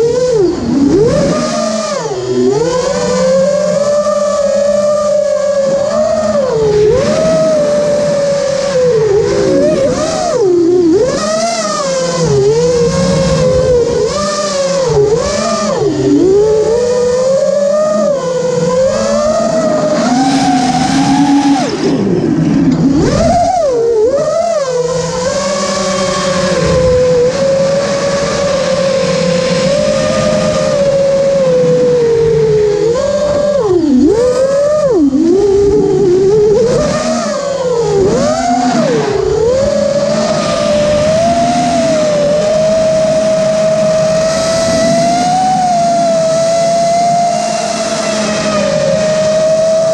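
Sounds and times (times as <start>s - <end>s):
quadcopter motors whining: 0.0s - 49.9s.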